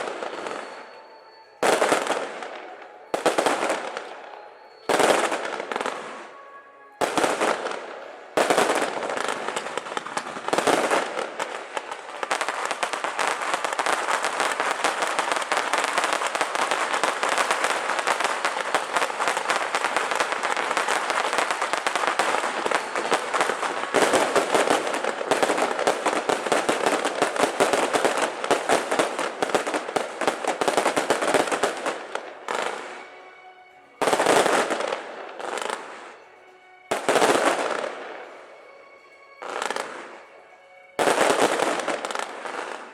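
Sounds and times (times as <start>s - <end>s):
firecrackers crackling: 0.0s - 42.9s.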